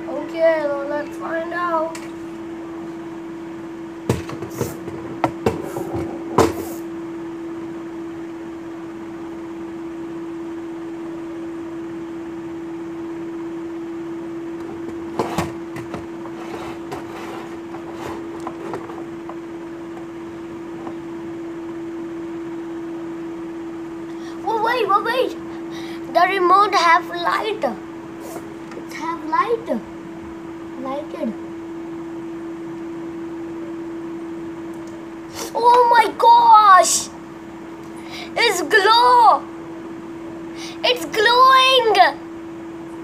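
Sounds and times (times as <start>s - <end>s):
steady even hum: 0.0s - 43.0s.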